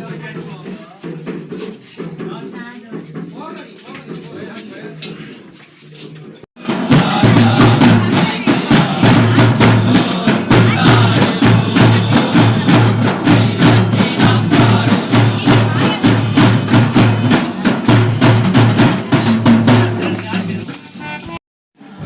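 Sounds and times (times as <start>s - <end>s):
tambourine jingles: 0.0s - 3.3s, 6.6s - 21.4s
drums beaten in fast rhythm: 0.0s - 5.1s, 6.6s - 21.4s.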